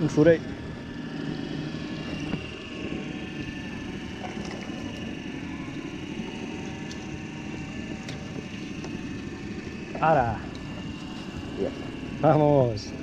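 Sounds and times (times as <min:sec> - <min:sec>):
boat engine droning: 0:00.0 - 0:13.0
faint steady whine: 0:00.0 - 0:13.0.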